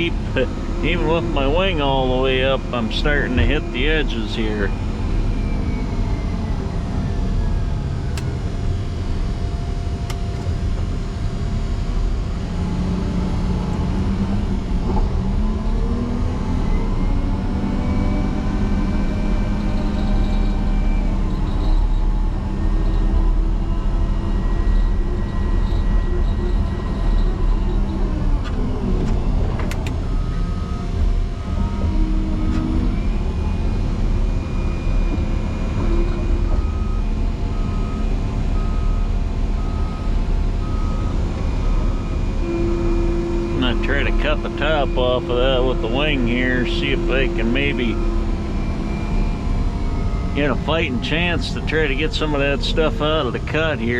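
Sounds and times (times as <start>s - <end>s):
diesel engine working under load: 0.0s - 53.9s.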